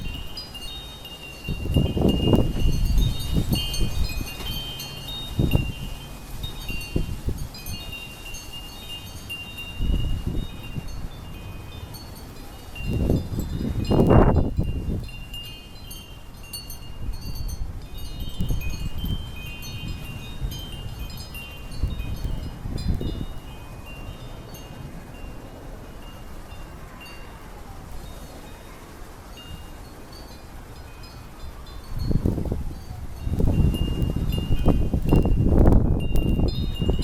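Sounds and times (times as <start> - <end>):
wind chimes ringing: 0.0 - 37.0
wind gusts on microphone: 0.0 - 37.0.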